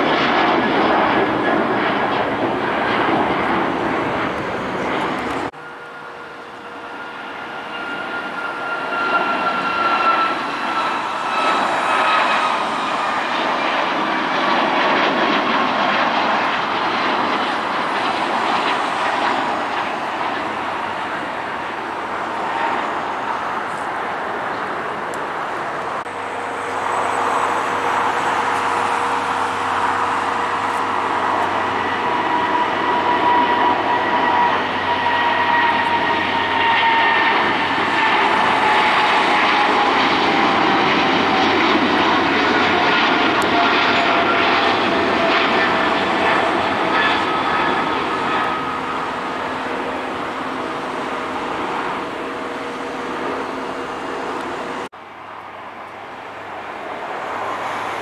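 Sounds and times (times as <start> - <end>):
jet airliner taking off: 0.0 - 58.0.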